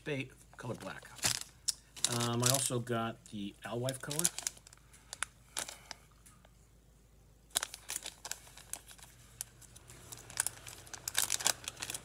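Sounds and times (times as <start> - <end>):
plastic bag crinkling: 0.5 - 6.1, 7.5 - 12.0.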